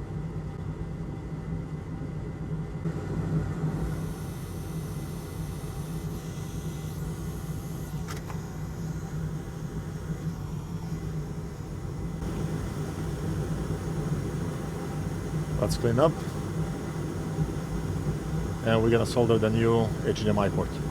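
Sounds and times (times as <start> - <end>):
fan motor humming: 3.8 - 20.9.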